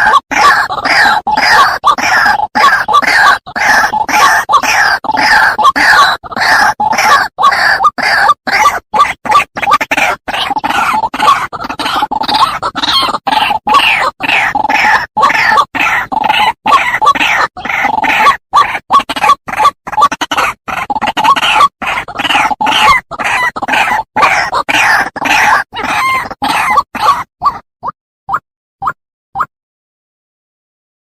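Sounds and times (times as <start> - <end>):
bird harsh croaking calls: 0.0 - 28.4.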